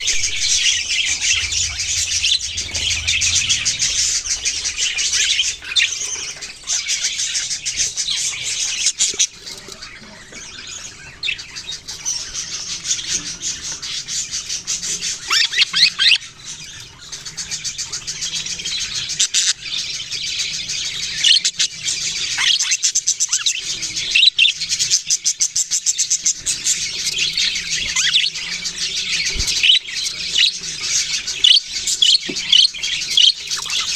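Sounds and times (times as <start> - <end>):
budgerigars twittering: 0.0 - 33.9.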